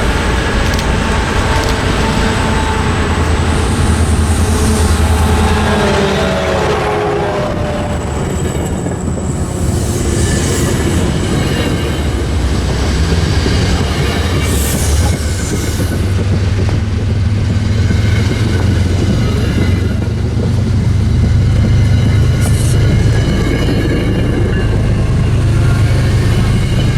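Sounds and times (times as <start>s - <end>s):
train rumbling by: 0.0s - 26.9s.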